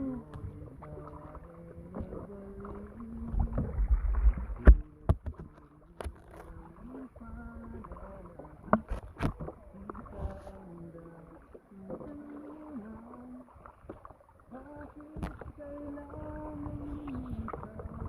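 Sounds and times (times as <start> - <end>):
low rumble of water: 0.0 - 18.0
paddle knocking against hull: 0.0 - 18.0.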